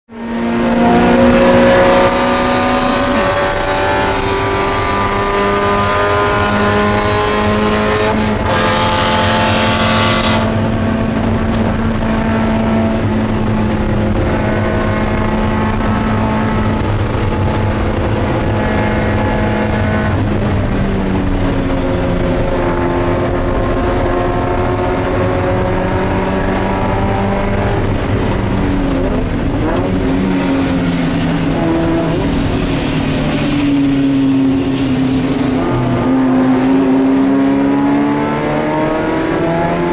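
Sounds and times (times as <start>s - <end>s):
car engine running hard: 0.1s - 39.9s.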